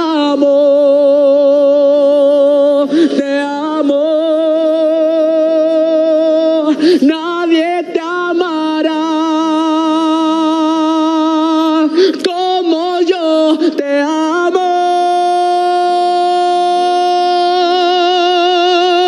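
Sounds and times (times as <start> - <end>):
man singing with vibrato: 0.0 - 19.0.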